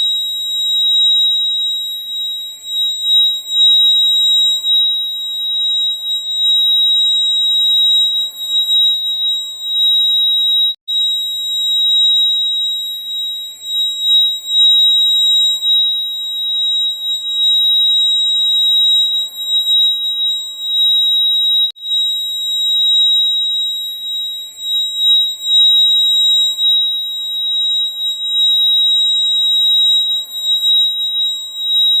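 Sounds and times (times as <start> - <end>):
fire alarm high-pitched tone: 0.0 - 32.0.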